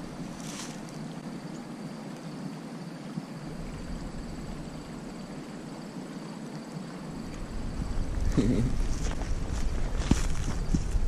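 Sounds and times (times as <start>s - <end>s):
river water rushing over gravel: 0.0s - 11.0s.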